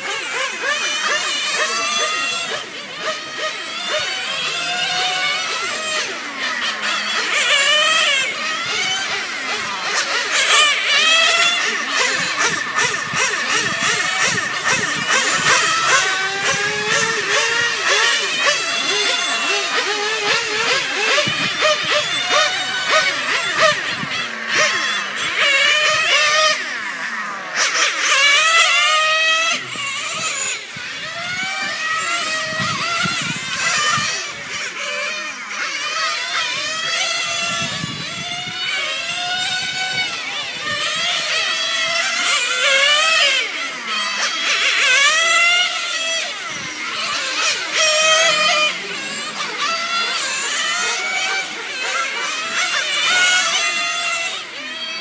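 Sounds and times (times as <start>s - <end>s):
model car engine high whine: 0.0s - 55.0s.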